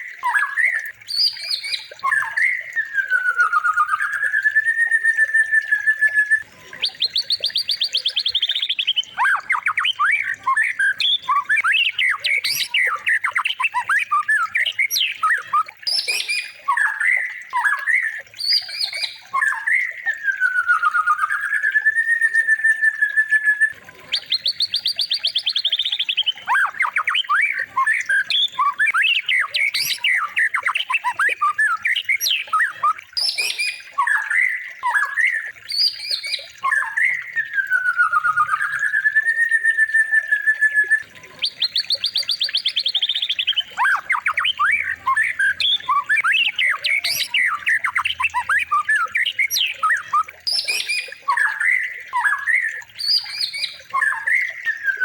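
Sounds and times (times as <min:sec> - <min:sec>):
songbird whistles and chirps: 0:00.0 - 0:55.0.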